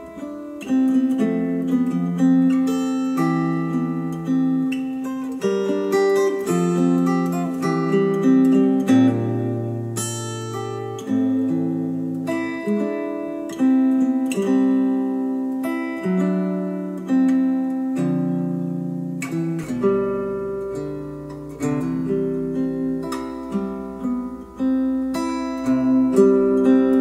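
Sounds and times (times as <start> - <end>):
acoustic guitar music through speakers: 0.0 - 27.0.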